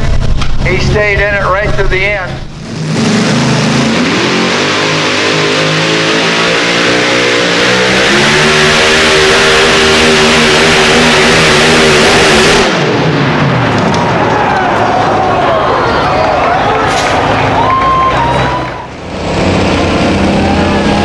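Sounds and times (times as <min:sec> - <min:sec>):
tractor engine at full throttle: 0:00.0 - 0:21.0.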